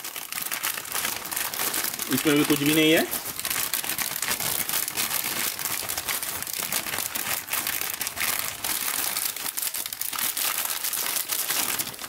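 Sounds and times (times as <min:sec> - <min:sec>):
plastic snack packet crinkling: 0:00.0 - 0:12.0.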